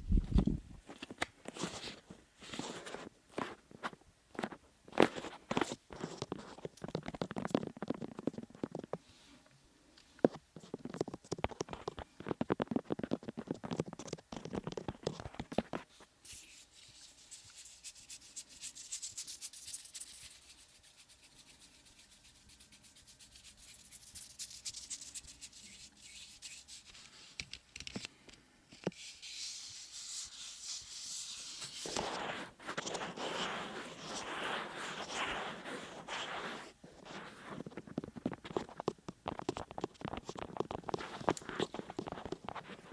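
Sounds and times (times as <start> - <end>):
rubbing against microphone: 1.5 - 9.4, 10.5 - 27.4, 28.8 - 42.9.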